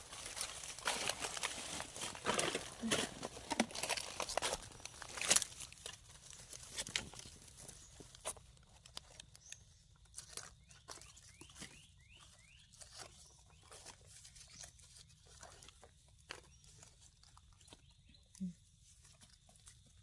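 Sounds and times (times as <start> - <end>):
dry leaves and twigs crackling: 0.0 - 20.0.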